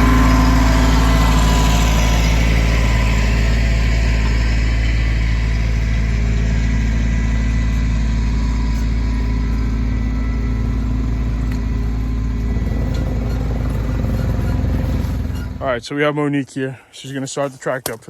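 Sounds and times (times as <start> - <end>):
engine idling: 0.0 - 15.8.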